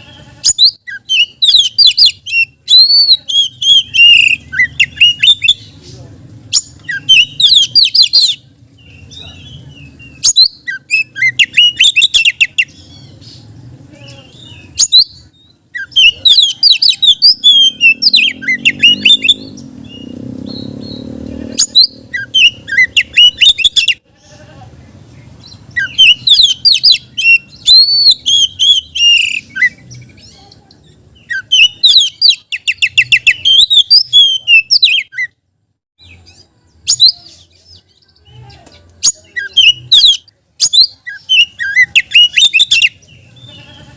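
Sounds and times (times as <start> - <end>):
bird singing whistles and trills: 0.5 - 5.6, 6.6 - 13.4, 14.2 - 24.0, 25.4 - 30.3, 31.2 - 35.4, 36.0 - 37.9, 39.0 - 43.5.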